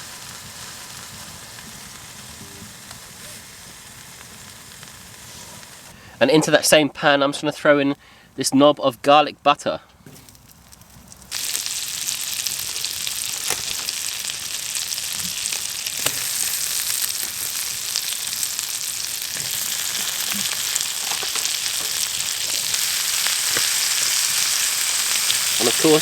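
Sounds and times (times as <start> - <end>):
butter sizzling in frying pan: 0.0 - 6.0, 10.1 - 26.0.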